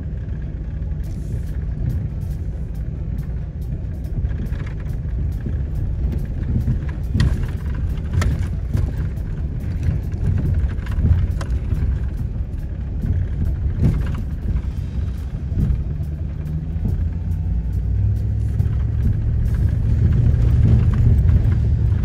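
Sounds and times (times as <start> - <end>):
knocks and rattles over bumps: 0.0 - 22.0
truck engine and tyres rumbling: 0.0 - 22.0.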